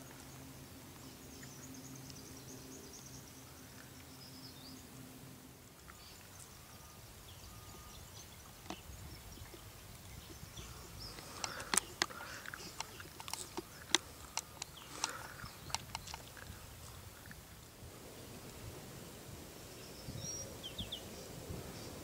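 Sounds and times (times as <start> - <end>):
faint outdoor background: 0.0 - 22.0.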